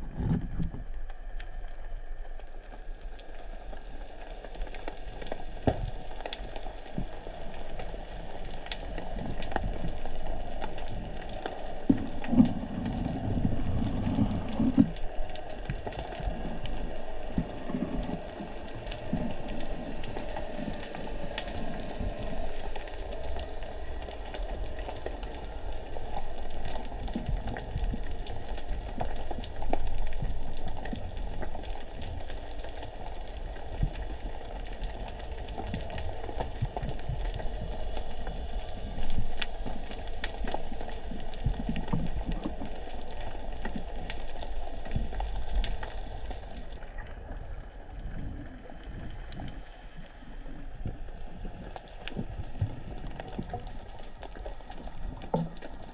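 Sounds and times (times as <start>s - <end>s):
low rush of water: 0.0s - 55.9s
reef crackling and clicks: 0.0s - 55.9s.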